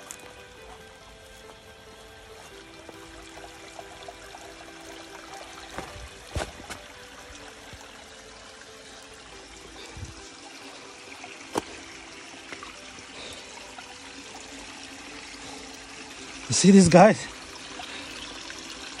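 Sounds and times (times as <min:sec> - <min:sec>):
stream trickling over stones: 0:00.0 - 0:19.0.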